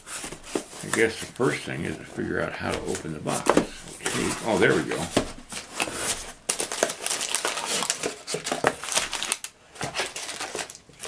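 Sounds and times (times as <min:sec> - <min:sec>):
cardboard flaps scraping: 0:00.0 - 0:10.7
plastic packaging crinkling: 0:00.0 - 0:11.0.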